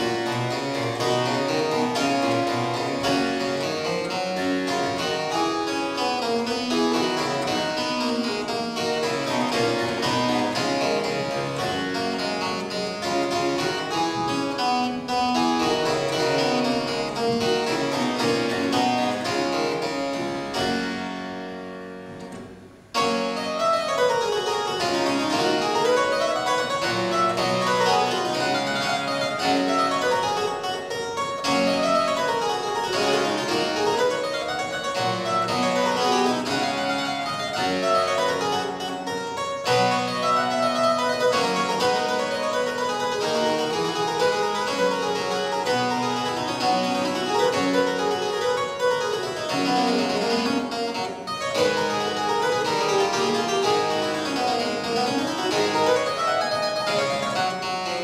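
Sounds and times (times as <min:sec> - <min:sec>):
harpsichord playing: 0:00.0 - 0:58.0.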